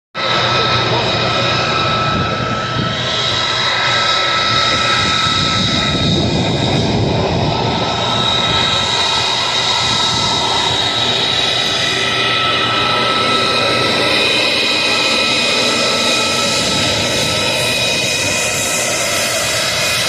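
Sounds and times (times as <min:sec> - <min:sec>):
high-pitched jet whine: 0:00.2 - 0:20.0
jet roar passing by: 0:00.2 - 0:20.0.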